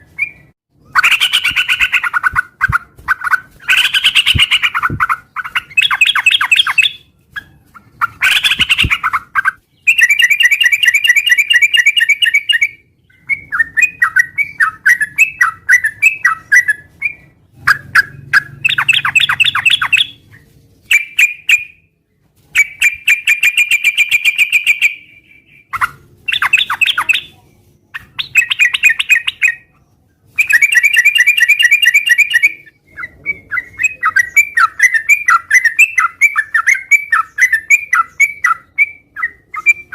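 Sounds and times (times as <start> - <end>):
bird singing chattering phrases: 0.0 - 21.8, 22.6 - 29.8, 30.4 - 39.9.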